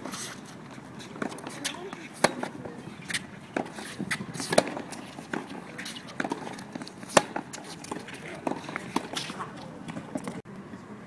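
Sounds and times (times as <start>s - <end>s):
players' footsteps: 0.0s - 10.4s
tennis ball bouncing: 0.7s - 10.4s
racket striking tennis ball: 1.0s - 10.4s.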